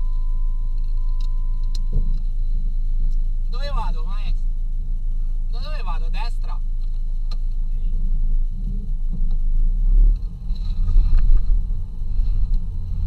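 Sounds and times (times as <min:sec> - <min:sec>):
engine and drivetrain rumble: 0:00.0 - 0:13.0.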